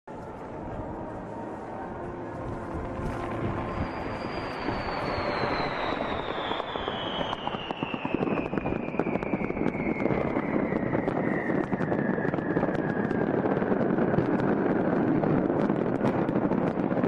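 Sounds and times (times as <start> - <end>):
firework whistle falling in pitch: 0.4 - 14.4
fireworks barrage with crackling pops: 2.4 - 17.0.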